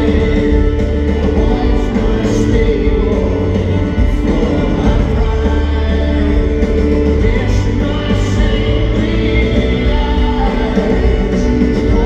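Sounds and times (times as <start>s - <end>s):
live rock band through sound system: 0.0s - 12.0s.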